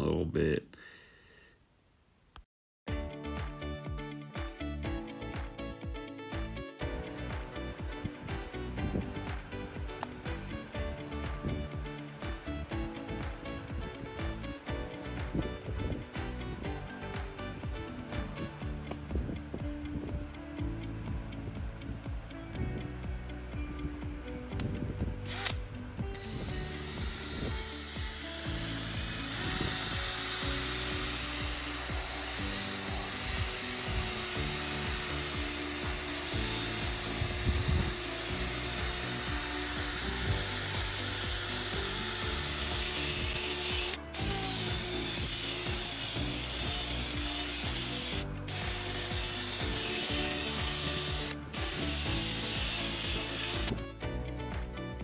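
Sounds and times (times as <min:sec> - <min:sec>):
background music: 0:02.9 - 0:55.0.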